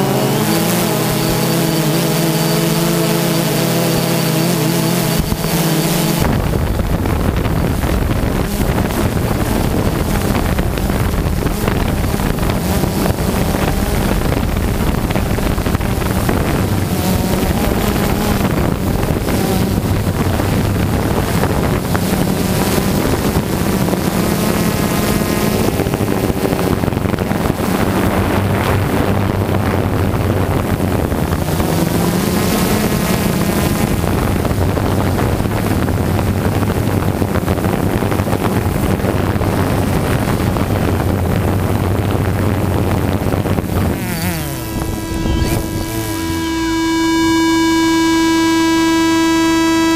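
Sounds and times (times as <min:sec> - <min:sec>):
drone rotors buzzing: 0:00.0 - 0:49.9
wind rushing over microphone: 0:00.0 - 0:49.9.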